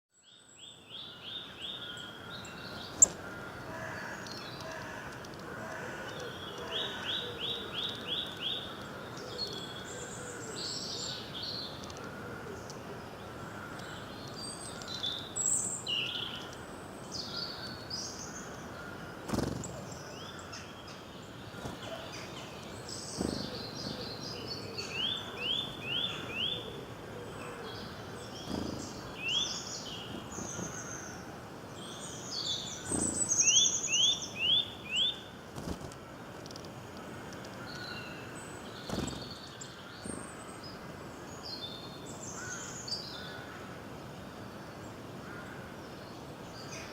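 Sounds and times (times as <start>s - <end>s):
wild birds singing and calling: 0.1s - 46.9s.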